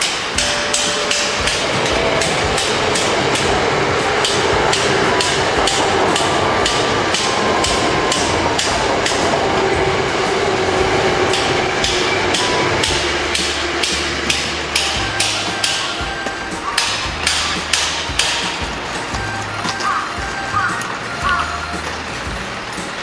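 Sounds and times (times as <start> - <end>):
hammer strikes: 0.0 - 23.0
steady machine hum: 0.0 - 23.0.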